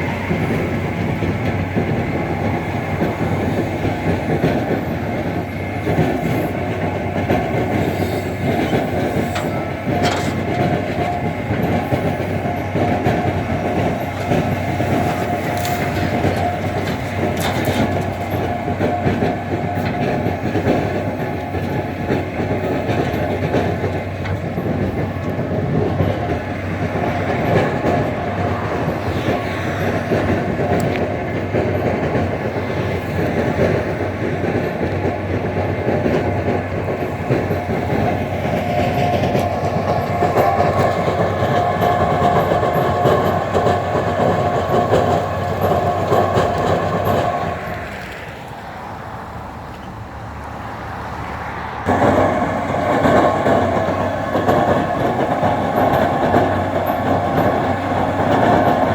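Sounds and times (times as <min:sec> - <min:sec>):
heavy vehicle clattering: 0:00.0 - 0:58.9.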